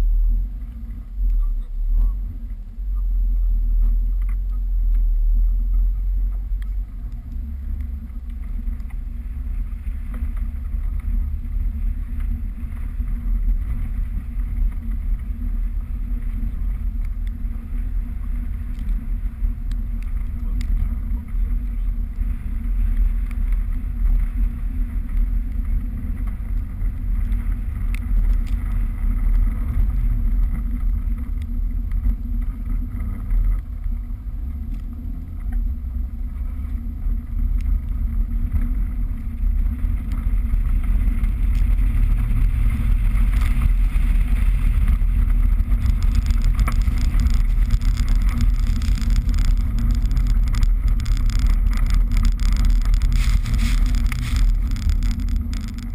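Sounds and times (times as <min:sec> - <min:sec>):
car engine running: 0:00.0 - 0:55.9
wind rumble on microphone: 0:00.0 - 0:55.9.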